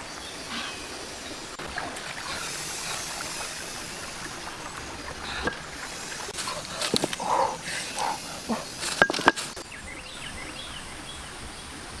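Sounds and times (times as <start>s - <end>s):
rocky river stream rushing: 0.0s - 9.7s.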